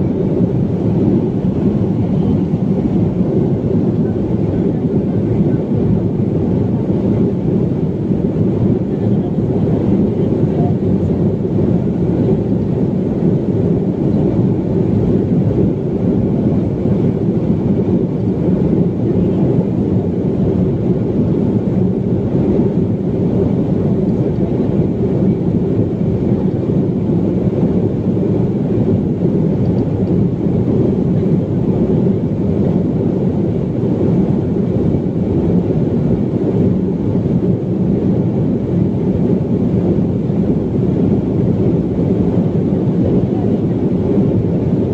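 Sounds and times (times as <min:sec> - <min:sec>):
jet engines rumbling: 0:00.0 - 0:44.9.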